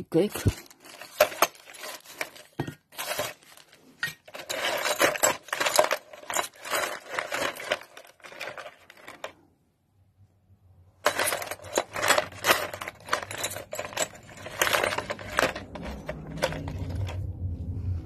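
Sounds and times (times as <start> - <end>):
metal parts clinking in container: 0.0 - 9.4, 11.0 - 17.3.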